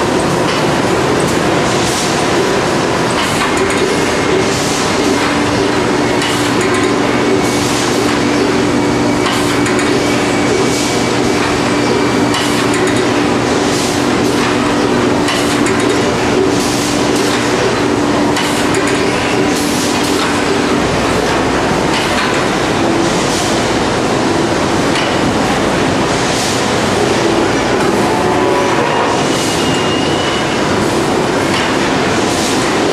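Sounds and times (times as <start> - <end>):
machine hum and rattle: 0.0 - 32.9.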